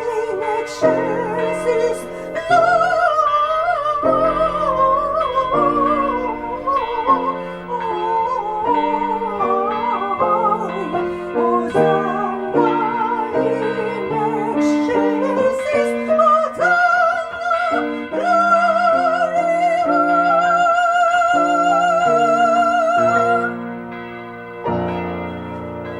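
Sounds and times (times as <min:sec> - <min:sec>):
classical singing with vibrato: 0:00.0 - 0:24.0
piano accompaniment: 0:00.0 - 0:25.9.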